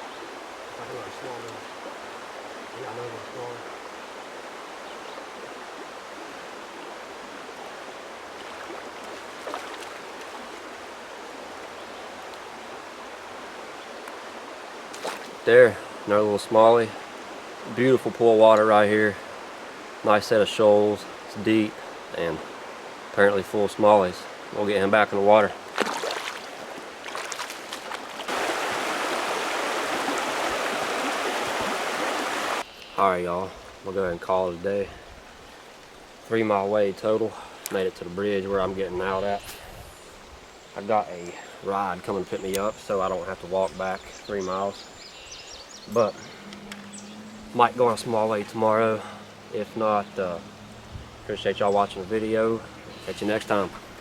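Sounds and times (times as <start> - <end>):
creek water rushing over rocks: 0.0 - 32.7, 33.4 - 54.0.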